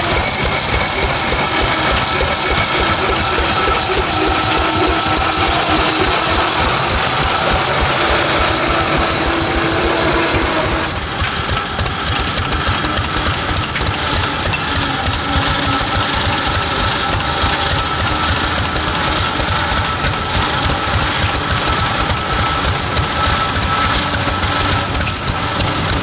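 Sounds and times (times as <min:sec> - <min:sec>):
engines running: 0:00.0 - 0:26.0.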